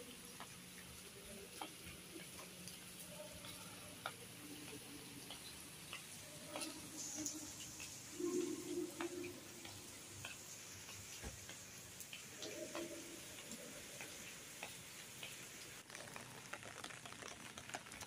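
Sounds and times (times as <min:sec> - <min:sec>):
rain falling: 0:00.0 - 0:18.0
water drips and ticks: 0:00.0 - 0:18.0.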